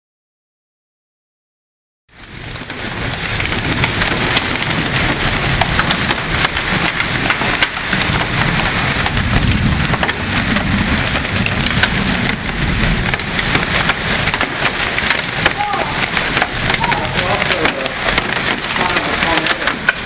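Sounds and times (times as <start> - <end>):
hailstones clicking: 2.1 - 20.0
heavy rain downpour: 2.1 - 20.0.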